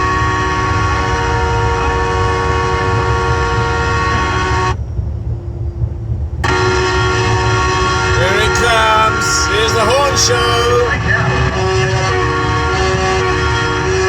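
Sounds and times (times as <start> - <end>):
vehicle horns blaring: 0.0 - 4.8, 6.4 - 14.0.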